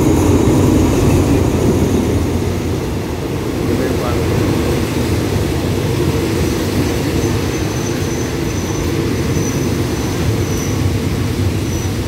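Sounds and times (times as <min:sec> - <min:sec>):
diesel train engine rumble: 0:00.0 - 0:12.0.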